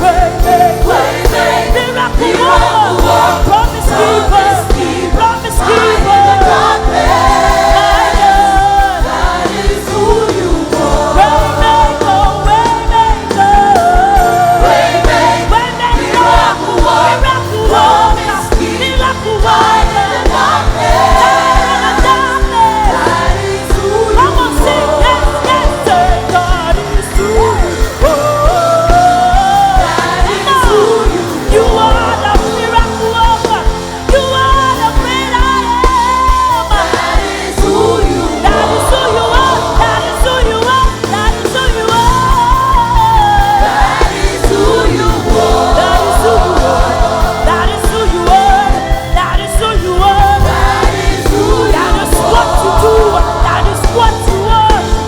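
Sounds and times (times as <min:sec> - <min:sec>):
band with steady beat: 0:00.0 - 0:55.0
choir singing: 0:00.0 - 0:55.0
lead vocalist singing: 0:00.0 - 0:55.0.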